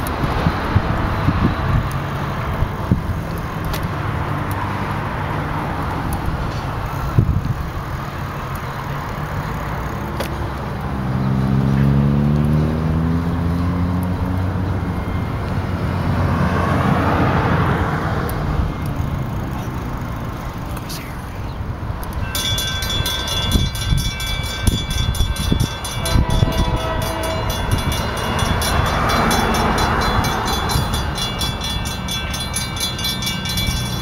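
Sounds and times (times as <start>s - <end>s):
road traffic passing: 0.0s - 34.0s
vehicle engine drone: 0.0s - 34.0s.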